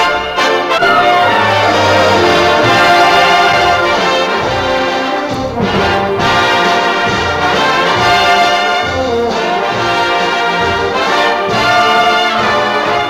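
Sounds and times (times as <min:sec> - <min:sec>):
brass-led orchestra playing: 0:00.0 - 0:13.0.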